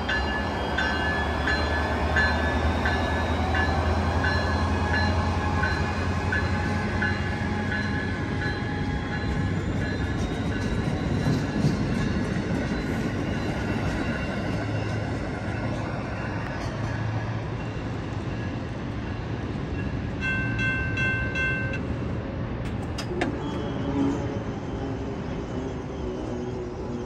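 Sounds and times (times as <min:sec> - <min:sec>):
train rumbling over rails: 0:00.0 - 0:27.0.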